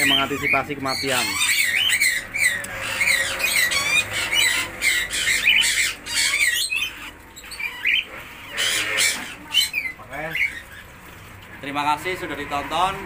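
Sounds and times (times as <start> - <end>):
parakeet chicks squawking: 0.0 - 11.2.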